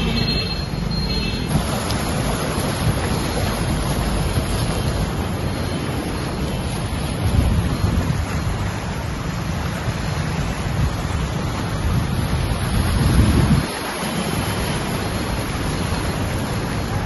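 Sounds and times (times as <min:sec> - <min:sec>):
floodwater rushing: 0:00.0 - 0:17.0
wind buffeting microphone: 0:01.4 - 0:17.0.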